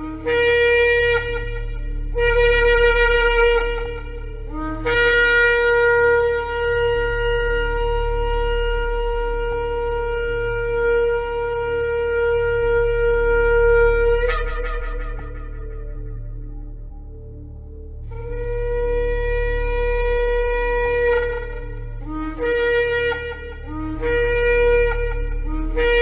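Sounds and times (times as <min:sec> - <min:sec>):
ram's horn blasts: 0:00.0 - 0:17.4, 0:18.0 - 0:26.0
low steady hum: 0:00.0 - 0:26.0.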